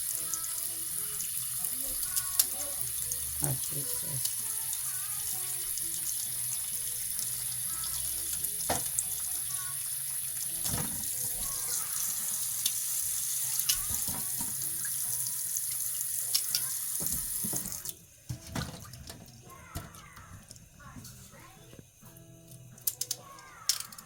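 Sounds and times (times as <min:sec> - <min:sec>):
kitchen tap running into sink: 0:00.0 - 0:24.0.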